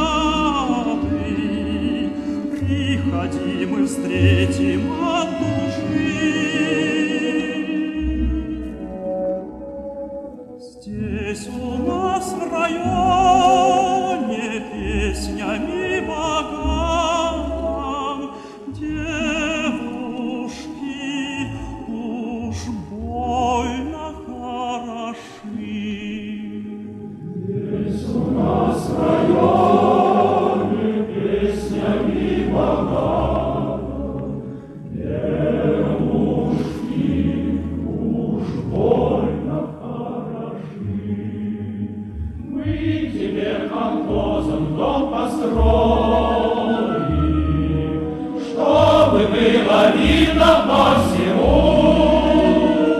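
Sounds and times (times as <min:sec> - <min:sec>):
vibrato singing with accompaniment: 0:00.0 - 0:52.9.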